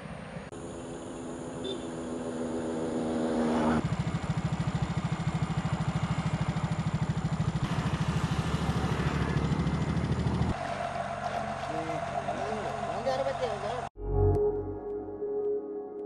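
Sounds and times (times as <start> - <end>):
small engine running: 0.2 - 13.9.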